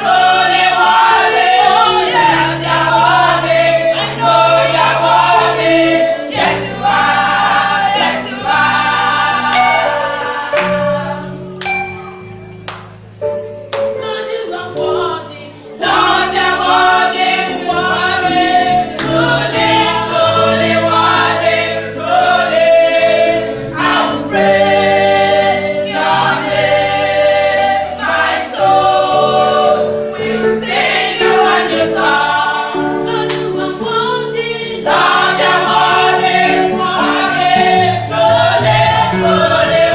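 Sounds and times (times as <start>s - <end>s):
choir singing gospel: 0.0s - 12.1s, 13.7s - 39.9s
instrumental accompaniment: 0.0s - 39.9s.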